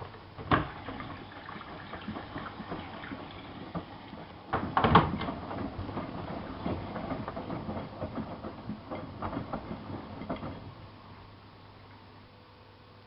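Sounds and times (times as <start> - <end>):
washing machine drum tumbling laundry: 0.0 - 11.4.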